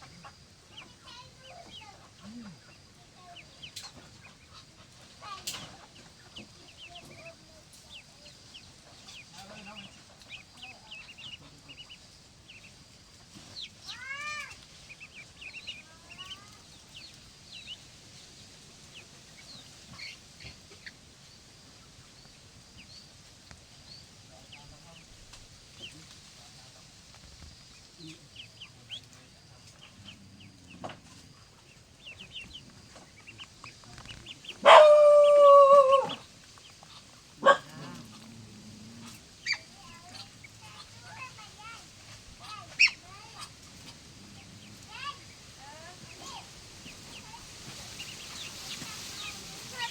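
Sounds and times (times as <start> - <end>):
poultry chirps and clucks: 0.0 - 49.9.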